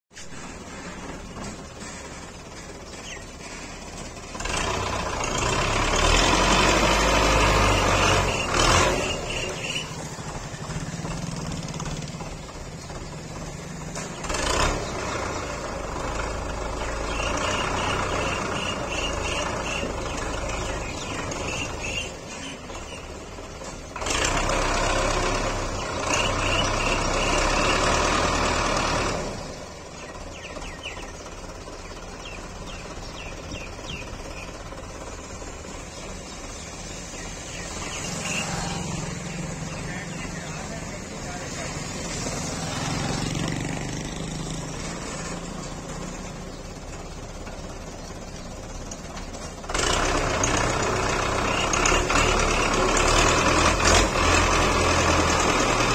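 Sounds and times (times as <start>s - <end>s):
tractor diesel engine under load: 0.1s - 55.9s.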